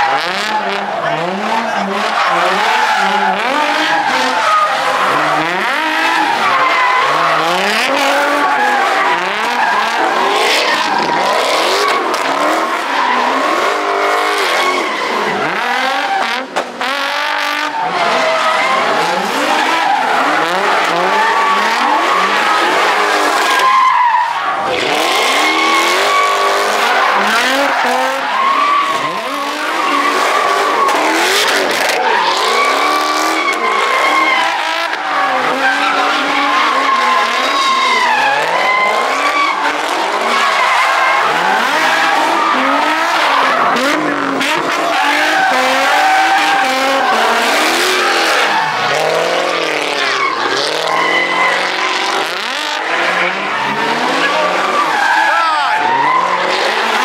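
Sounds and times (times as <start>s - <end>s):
car engines revving: 0.0s - 57.0s
tire squeal: 0.0s - 57.0s.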